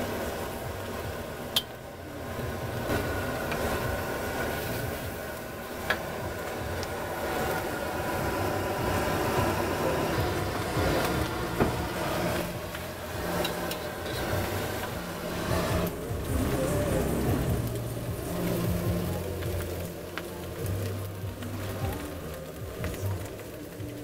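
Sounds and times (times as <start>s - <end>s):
gas burner roar: 0.0s - 24.0s.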